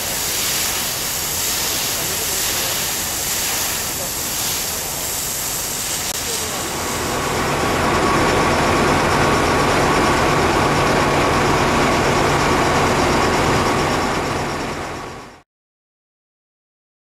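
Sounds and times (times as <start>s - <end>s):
diesel engine running: 0.1s - 15.4s.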